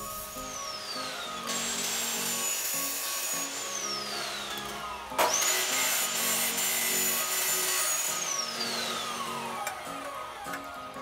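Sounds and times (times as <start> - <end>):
background music: 0.0 - 11.0
cut-off saw grinding metal: 0.0 - 11.0.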